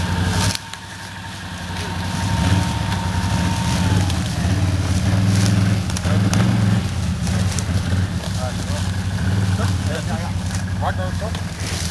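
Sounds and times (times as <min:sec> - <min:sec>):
quad bike engine revving: 0:00.0 - 0:11.9.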